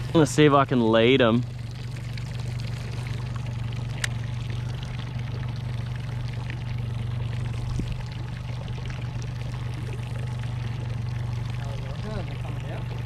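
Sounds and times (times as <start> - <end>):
boat motor humming: 0.0 - 13.0
water lapping against hull: 0.0 - 13.0.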